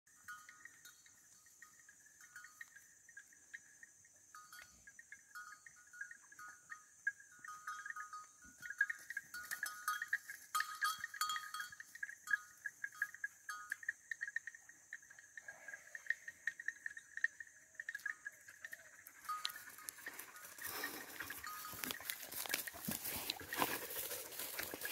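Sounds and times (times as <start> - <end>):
cattle bells clanking: 0.1 - 24.9.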